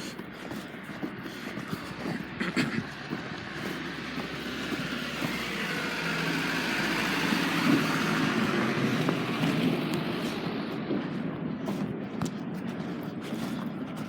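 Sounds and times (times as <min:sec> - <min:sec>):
vehicle passing on snowy street: 0:00.0 - 0:14.0.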